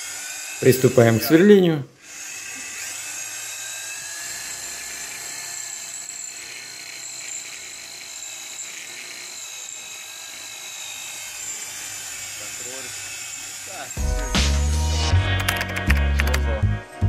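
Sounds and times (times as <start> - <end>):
electric drill whining: 0.0 - 15.2.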